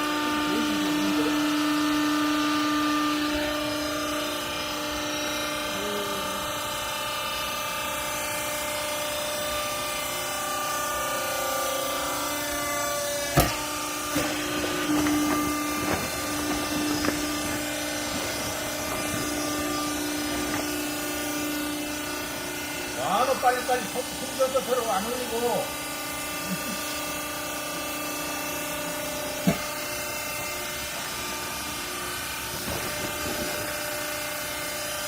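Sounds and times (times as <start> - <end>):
baler motor humming: 0.0 - 34.8.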